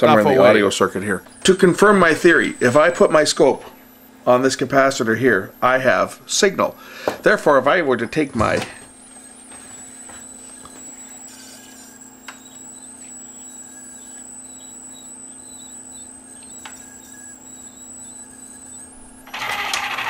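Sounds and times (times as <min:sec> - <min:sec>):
high-pitched whine: 0:00.0 - 0:20.0
low electrical hum: 0:00.0 - 0:20.0.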